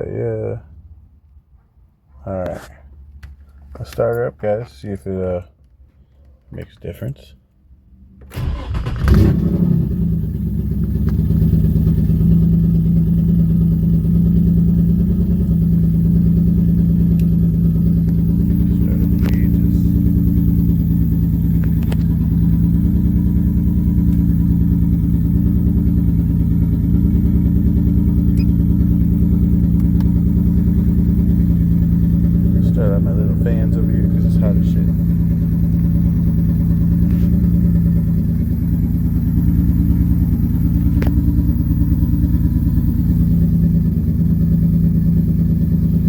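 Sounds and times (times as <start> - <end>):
car engine starting and idling: 8.0 - 46.0.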